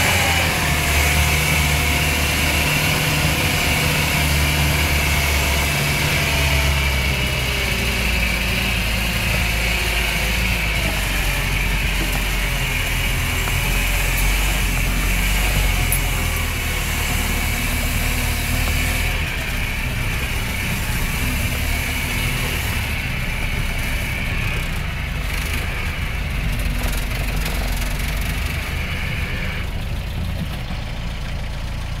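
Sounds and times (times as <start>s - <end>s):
engine rumbling: 0.0s - 32.0s.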